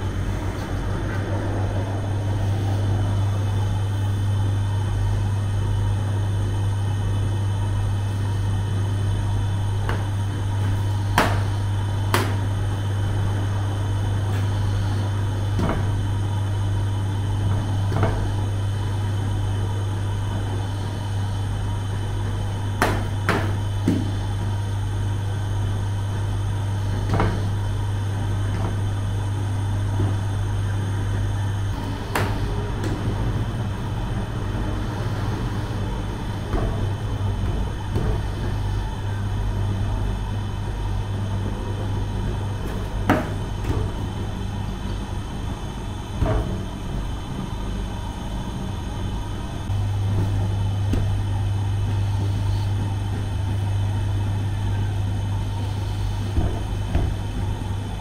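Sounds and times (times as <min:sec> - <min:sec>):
oven humming: 0:00.0 - 0:58.0.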